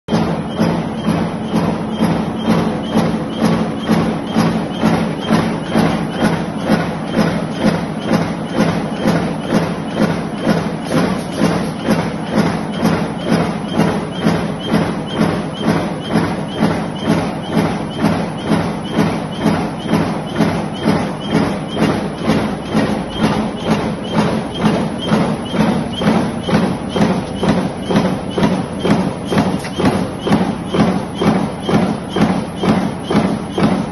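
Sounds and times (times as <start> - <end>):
motor hum: 0.1 - 33.9.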